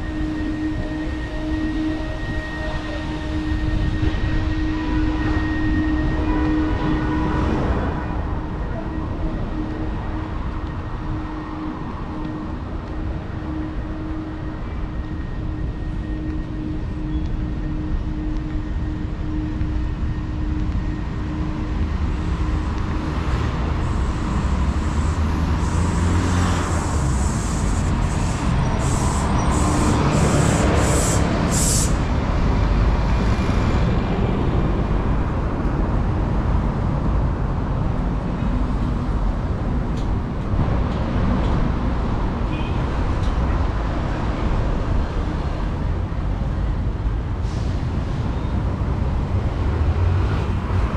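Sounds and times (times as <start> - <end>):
vehicles passing by: 0.0 - 50.9.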